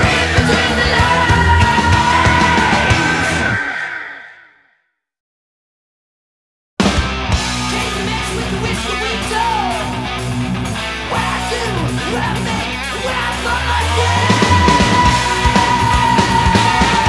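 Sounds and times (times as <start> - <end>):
loud rock song: 0.0 - 4.5, 6.8 - 17.0.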